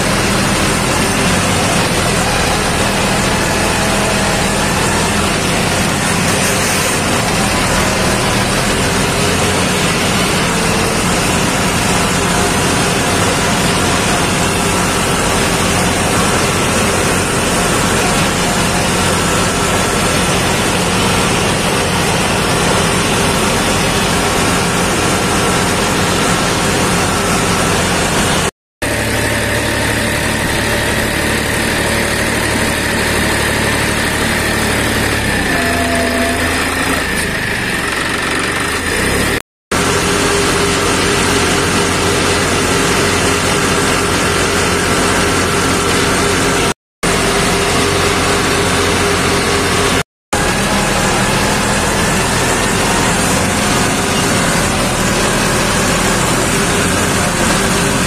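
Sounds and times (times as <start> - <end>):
diesel engine running: 0.0 - 58.0
engine high whine: 0.0 - 58.0.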